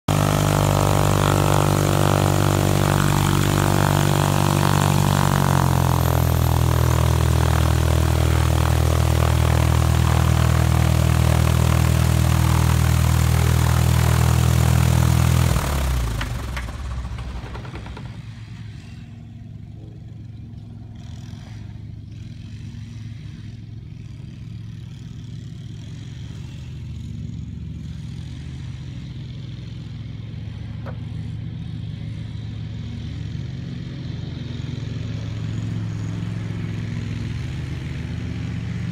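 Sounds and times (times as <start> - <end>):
aircraft engine and propeller running: 0.0 - 38.9.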